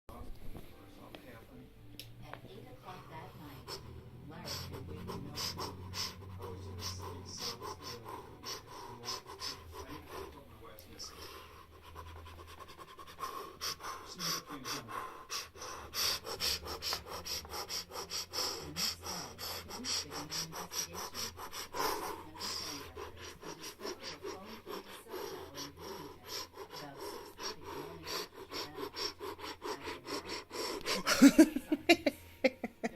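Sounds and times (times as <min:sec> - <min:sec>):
heavy breathing: 0:02.7 - 0:32.9.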